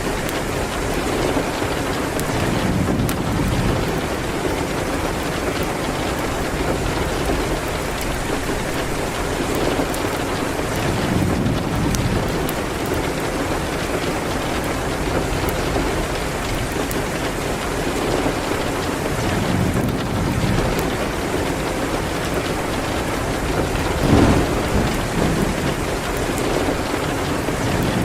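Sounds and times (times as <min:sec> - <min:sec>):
rain hitting a window: 0:00.0 - 0:28.0.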